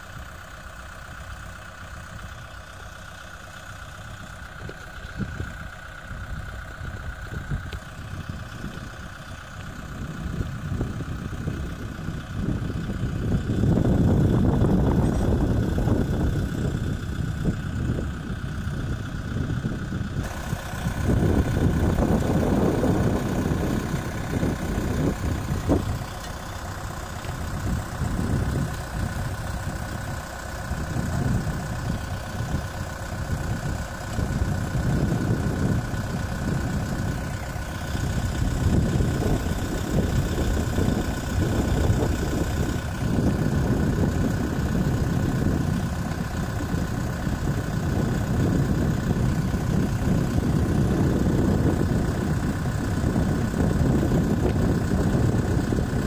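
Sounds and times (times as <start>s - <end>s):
tractor diesel engine idling: 0.0s - 56.0s.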